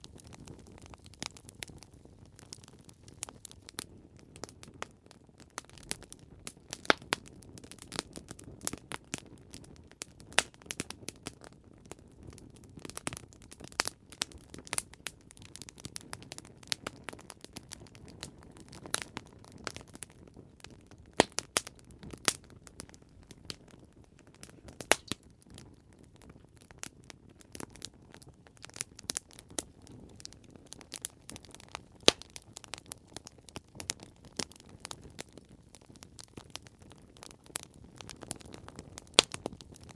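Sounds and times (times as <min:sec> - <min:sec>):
burning wood popping and snapping: 0:00.0 - 0:39.9
low rumble of flames: 0:00.0 - 0:39.9.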